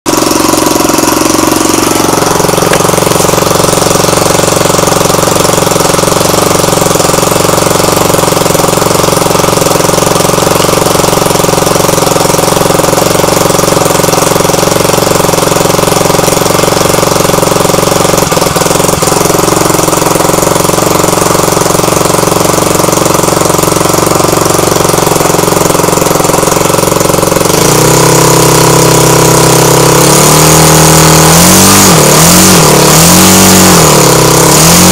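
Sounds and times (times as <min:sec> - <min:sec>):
model aircraft engine running: 0:00.1 - 0:34.9.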